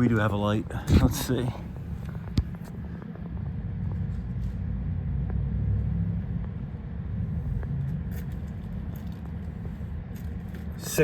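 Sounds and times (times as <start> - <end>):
low steady rumbling: 0.0 - 11.0.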